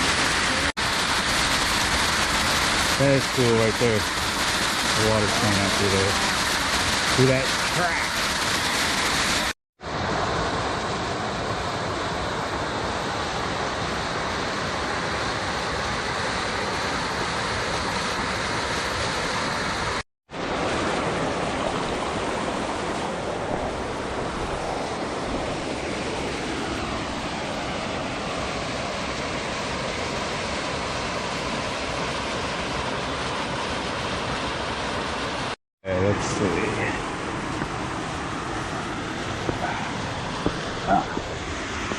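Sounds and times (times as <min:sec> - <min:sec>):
creek water over small waterfall: 0:00.0 - 0:41.9.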